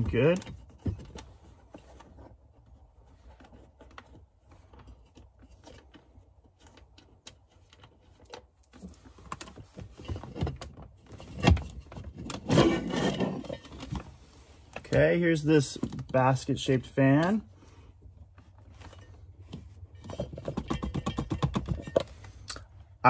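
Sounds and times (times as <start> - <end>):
plastic scraping and rattling: 0.0 - 16.3, 18.1 - 22.5.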